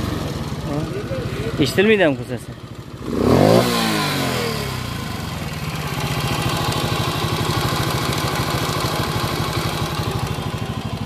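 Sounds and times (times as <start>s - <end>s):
moped engine idling: 0.0s - 11.0s.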